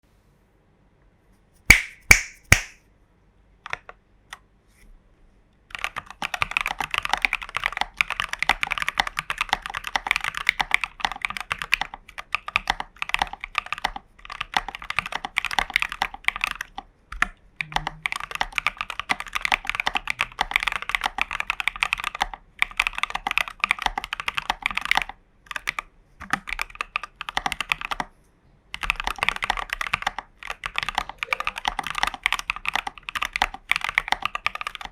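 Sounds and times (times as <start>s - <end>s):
mechanical keyboard typing: 5.7s - 28.1s, 28.7s - 34.9s.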